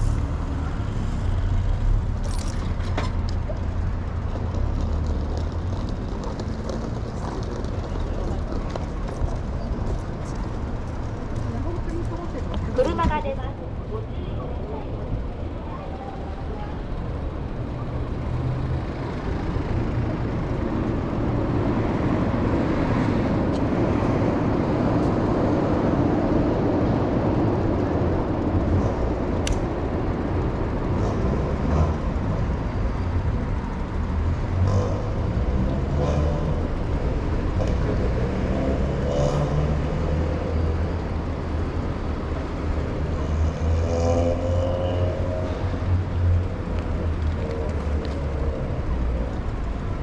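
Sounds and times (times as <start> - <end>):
city street traffic: 0.0 - 50.0.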